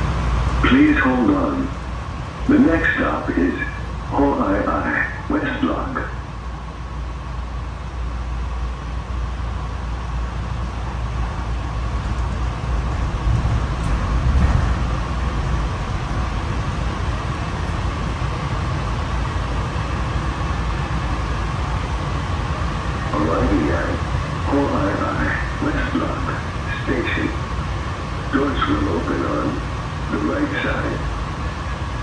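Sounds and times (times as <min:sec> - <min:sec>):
constant train whine: 0:00.0 - 0:32.0
train wheels rumbling: 0:00.0 - 0:32.0.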